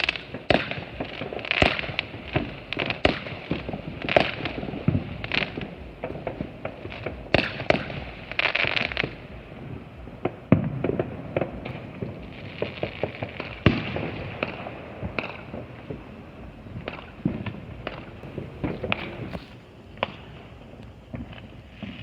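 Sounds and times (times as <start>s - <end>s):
fireworks crackling: 0.0s - 22.0s
fireworks pops and bangs: 0.0s - 22.0s.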